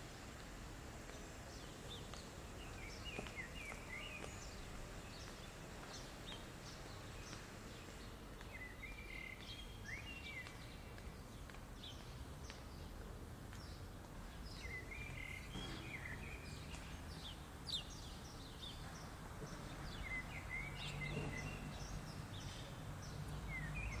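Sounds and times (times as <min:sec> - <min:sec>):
small songbirds twittering: 0:01.1 - 0:24.0.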